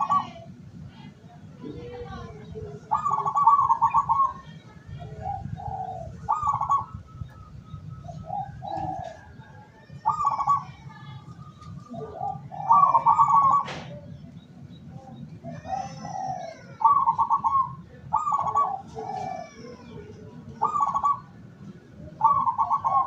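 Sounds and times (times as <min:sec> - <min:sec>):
dove cooing: 0:00.0 - 0:00.6, 0:01.8 - 0:14.3, 0:15.4 - 0:23.0.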